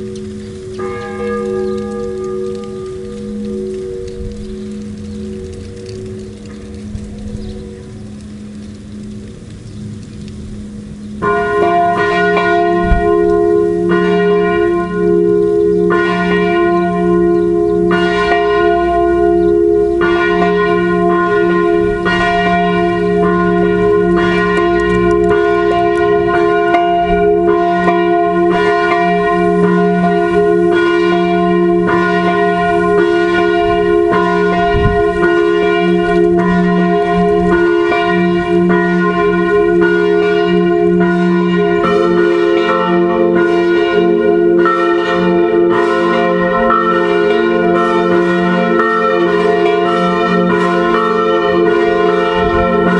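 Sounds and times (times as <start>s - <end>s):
church bells ringing: 0.0s - 52.9s.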